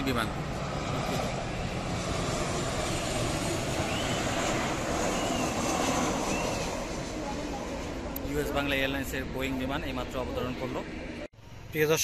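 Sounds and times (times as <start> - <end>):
jet airliner flying low: 0.0 - 12.0.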